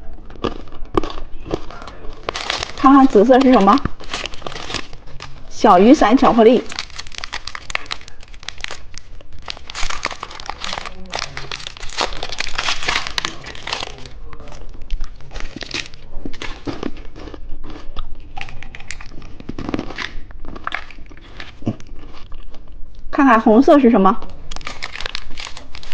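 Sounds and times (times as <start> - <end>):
candy wrappers crinkling and tearing: 0.1 - 23.1, 23.8 - 25.9.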